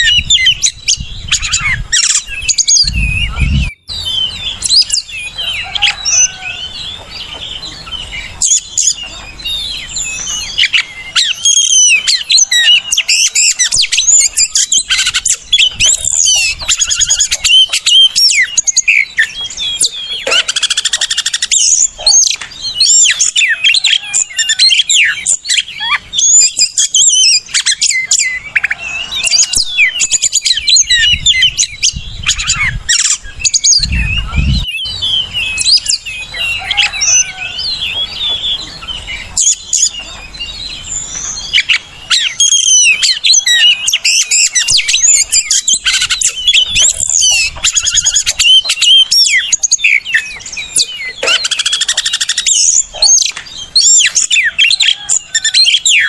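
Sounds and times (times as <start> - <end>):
bird singing whistles and chirps: 0.0 - 56.0.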